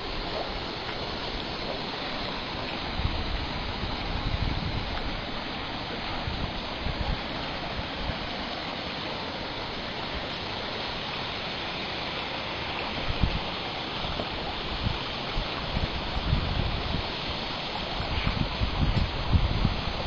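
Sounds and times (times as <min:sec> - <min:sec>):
running water rushing: 0:00.0 - 0:20.0.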